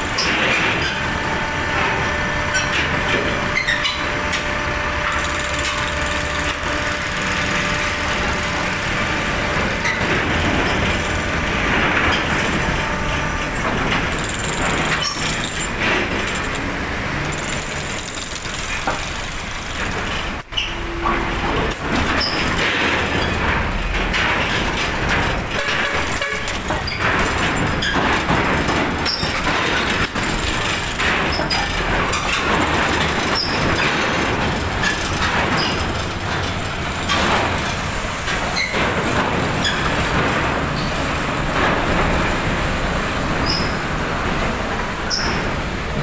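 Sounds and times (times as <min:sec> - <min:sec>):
bus engine rumbling: 0:00.0 - 0:46.0.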